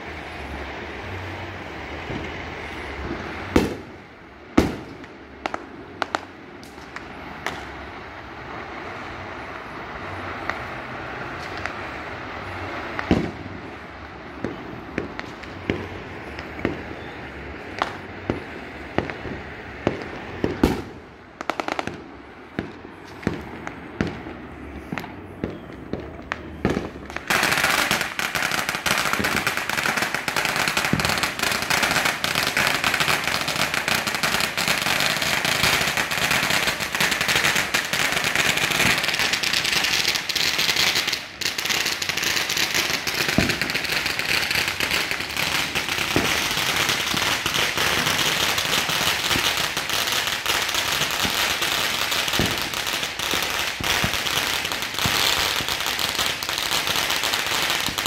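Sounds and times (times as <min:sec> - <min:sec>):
firecrackers crackling: 0:00.0 - 0:58.0
fireworks banging: 0:00.0 - 0:58.0.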